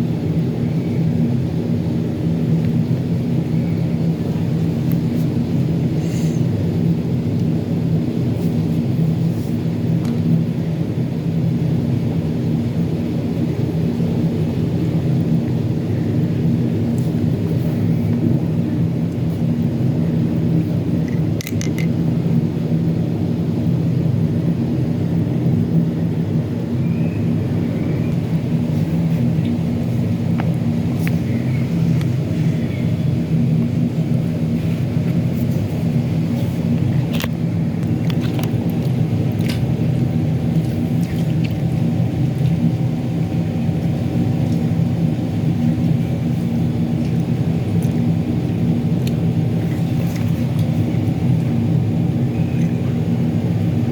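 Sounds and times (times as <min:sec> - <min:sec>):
low rumbling drone: 0:00.0 - 0:53.9.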